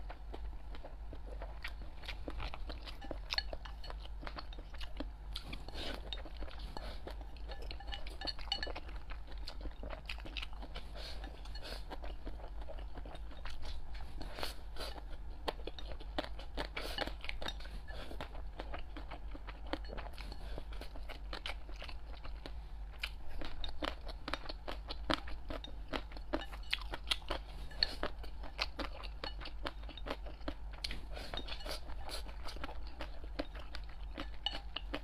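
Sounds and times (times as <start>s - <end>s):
person chewing: 0.0s - 35.0s.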